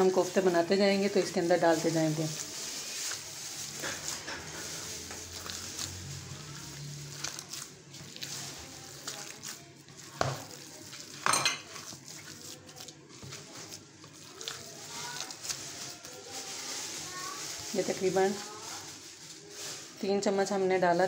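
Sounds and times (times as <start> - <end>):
hand kneading wet mixture: 0.0 - 21.0.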